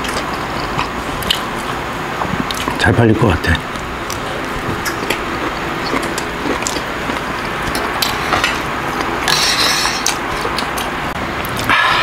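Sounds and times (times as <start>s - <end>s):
chewing with wet mouth clicks: 0.0s - 1.7s, 2.3s - 2.8s, 3.7s - 11.7s.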